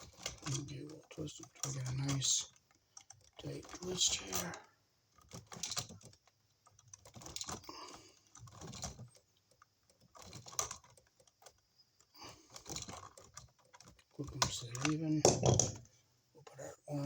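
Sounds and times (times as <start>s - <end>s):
wires clicking and scraping: 0.0s - 17.0s.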